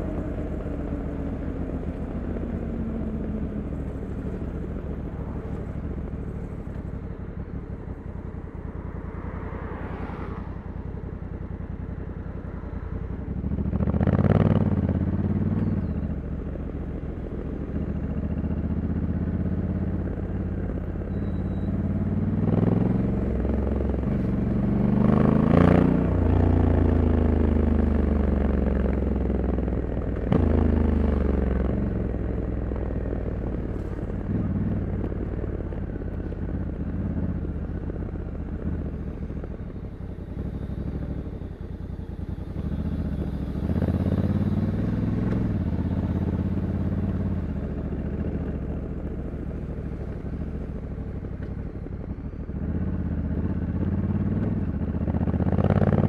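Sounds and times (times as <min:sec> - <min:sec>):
motorcycle engine while riding: 0:00.0 - 0:56.0.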